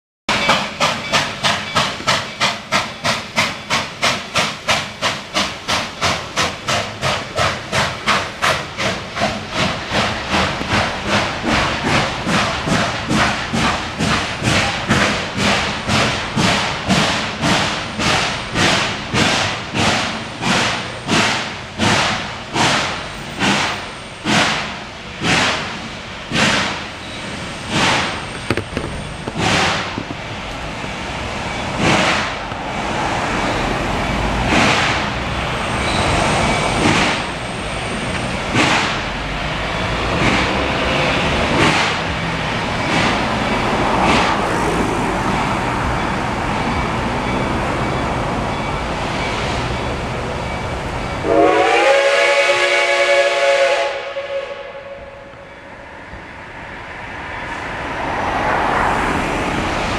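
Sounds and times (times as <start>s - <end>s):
steam locomotive chuffing: 0.3s - 59.9s.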